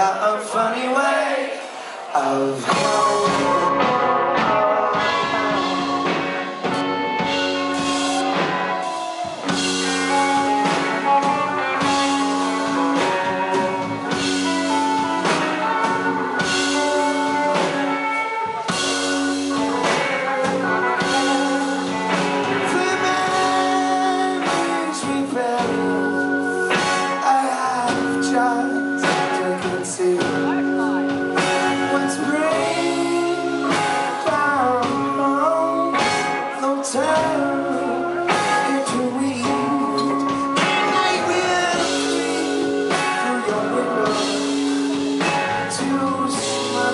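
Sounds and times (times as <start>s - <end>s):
man singing lead vocal: 0.0s - 11.2s, 19.5s - 46.9s
live rock band playing: 0.0s - 46.9s.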